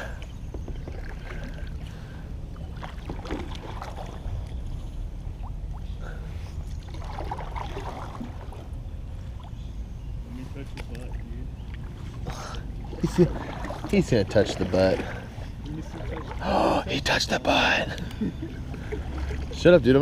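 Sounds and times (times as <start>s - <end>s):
kayak splashes and drips: 0.0s - 9.7s, 10.8s - 17.0s, 18.6s - 20.0s
steady low rumble: 0.0s - 20.0s.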